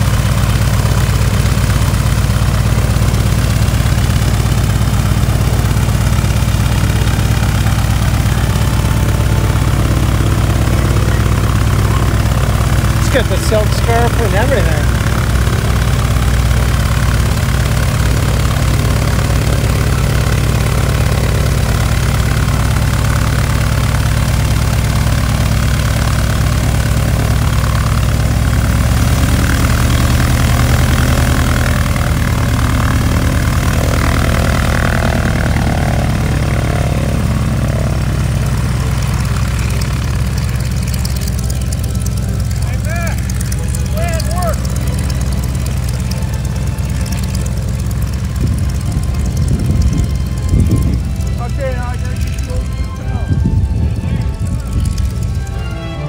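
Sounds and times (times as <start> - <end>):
propeller airplane engine idling: 0.0 - 56.0.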